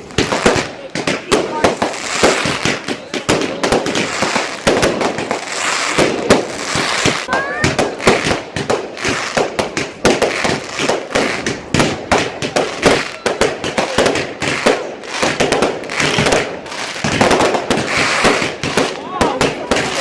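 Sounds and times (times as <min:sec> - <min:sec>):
fireworks bangs and cracks: 0:00.0 - 0:20.0.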